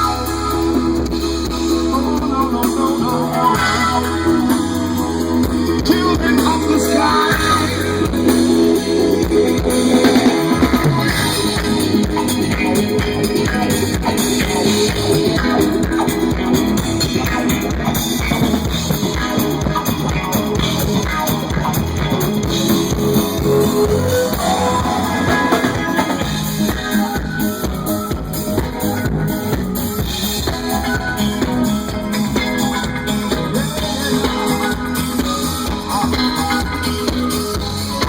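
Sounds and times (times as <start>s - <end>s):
drum kit: 0.0s - 38.0s
guitar: 0.0s - 38.0s
rock band playing live: 0.0s - 38.0s.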